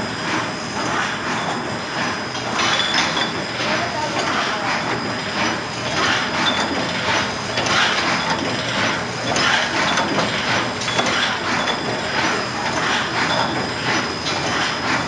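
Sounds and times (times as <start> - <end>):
printing machine cycling rhythmically: 0.0 - 15.0.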